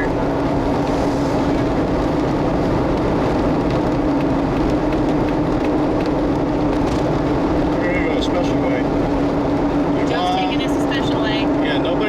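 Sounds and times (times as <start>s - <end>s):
tyre road noise: 0.0s - 12.0s
wind rush through car windows: 0.0s - 12.0s.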